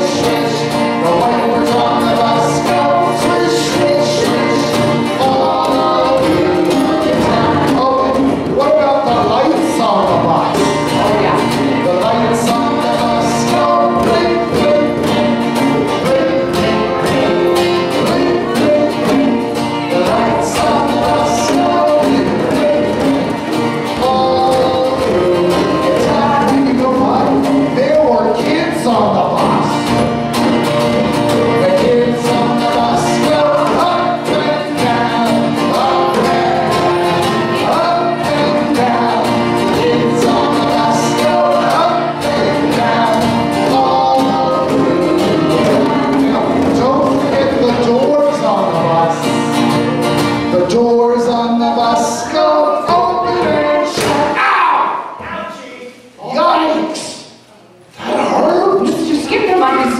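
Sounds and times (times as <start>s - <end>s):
hand drums: 0.0s - 50.5s
group singing: 0.0s - 55.2s, 57.9s - 59.1s
acoustic guitars: 0.0s - 59.9s.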